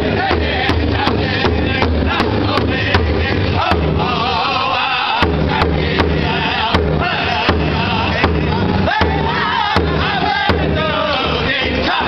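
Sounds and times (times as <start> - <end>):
large drum beating: 0.0 - 4.4, 5.2 - 12.0
high-pitched group singing: 0.0 - 12.0.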